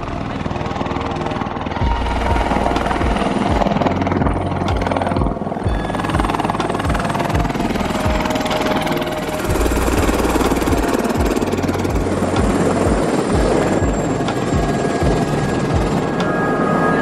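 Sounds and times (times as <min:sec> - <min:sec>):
helicopter engine and rotor: 0:00.0 - 0:17.0
music with low beat: 0:01.6 - 0:17.0.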